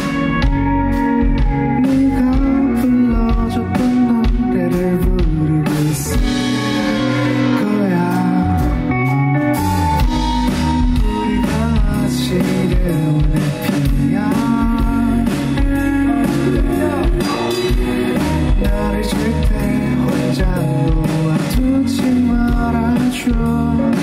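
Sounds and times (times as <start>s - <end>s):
drum kit: 0.0s - 24.0s
electric guitar: 0.0s - 24.0s
man singing: 1.6s - 9.2s, 10.9s - 24.0s.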